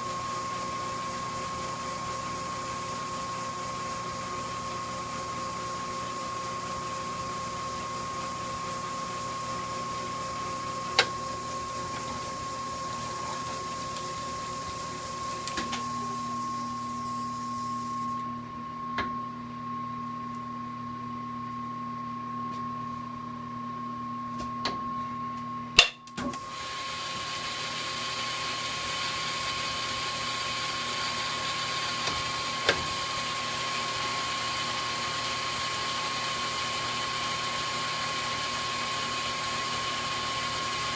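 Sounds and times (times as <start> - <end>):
lathe motor humming and whining: 0.0 - 18.6, 26.4 - 40.9.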